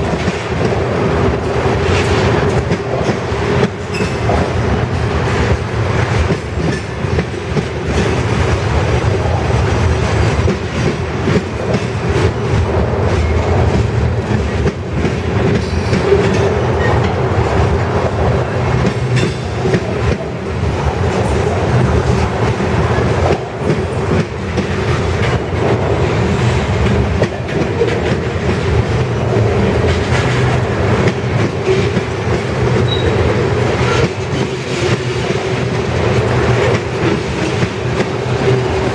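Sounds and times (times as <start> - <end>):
freight train rumble: 0.0 - 38.9
train wheels clacking over rail joints: 0.0 - 38.9.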